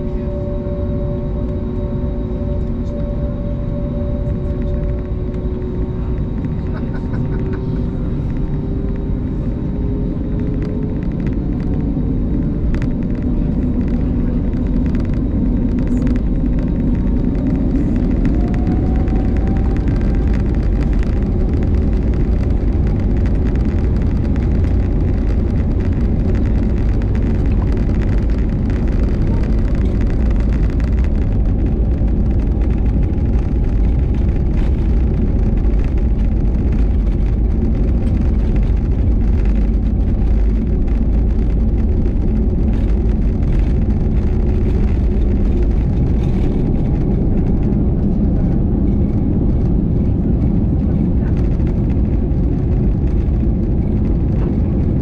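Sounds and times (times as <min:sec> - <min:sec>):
jet engines whining: 0:00.0 - 0:55.0
wheels rumbling on runway: 0:00.0 - 0:55.0.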